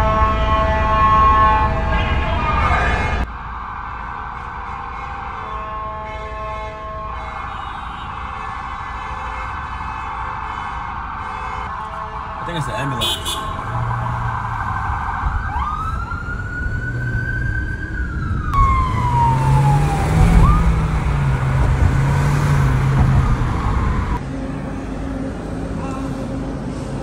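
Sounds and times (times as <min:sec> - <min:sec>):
emergency siren wailing: 0:00.0 - 0:27.0
low traffic rumble: 0:00.0 - 0:27.0.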